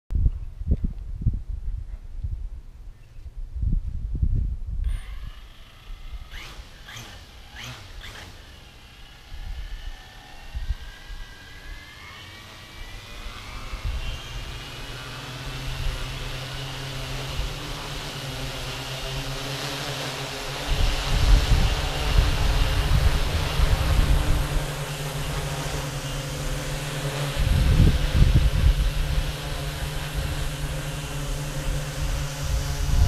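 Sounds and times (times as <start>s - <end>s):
drone motors whining: 4.8s - 33.0s.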